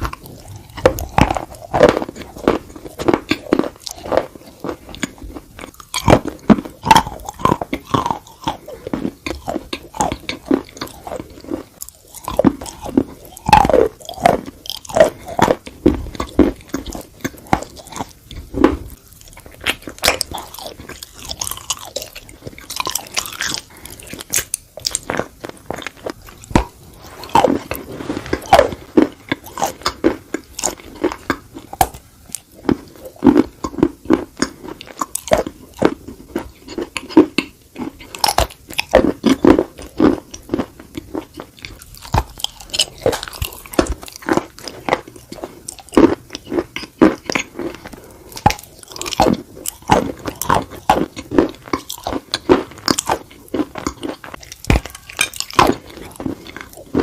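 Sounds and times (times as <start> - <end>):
crunchy chewing of clay chunks: 0.0 - 57.0.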